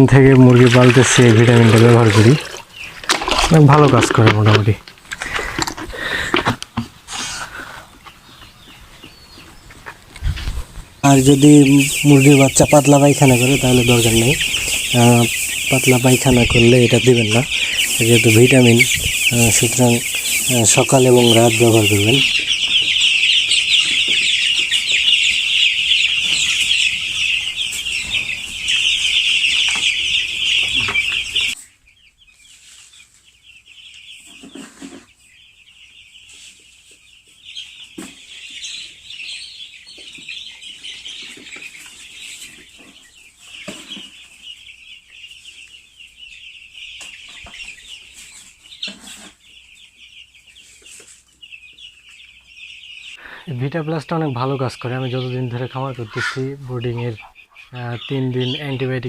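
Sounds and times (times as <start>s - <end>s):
chicks cheeping: 0.0s - 59.0s.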